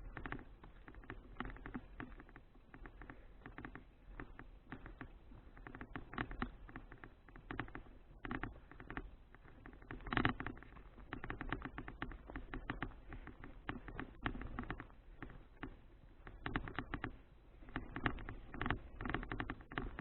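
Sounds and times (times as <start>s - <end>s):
bicycle rattling and clicking: 0.0s - 20.0s.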